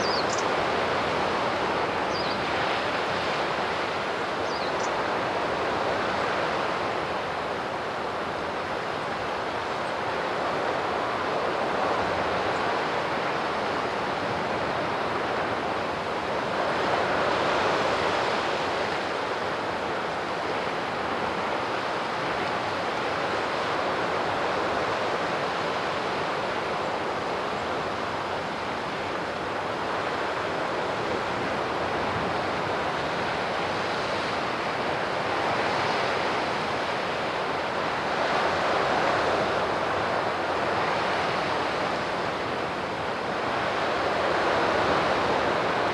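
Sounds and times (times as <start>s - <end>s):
sea waves washing on shore: 0.0s - 45.9s.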